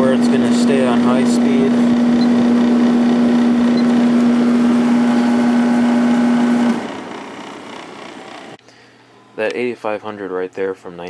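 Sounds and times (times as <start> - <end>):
air conditioner running: 0.0 - 11.0.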